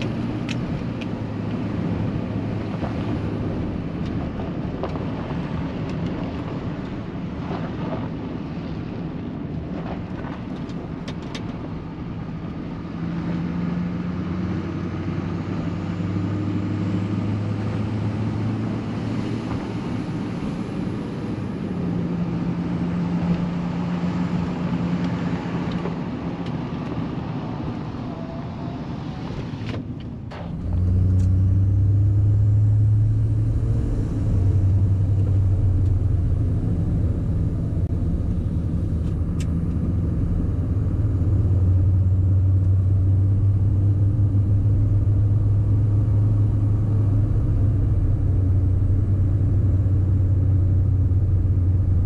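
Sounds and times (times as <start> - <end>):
truck engine droning: 9.6 - 52.0.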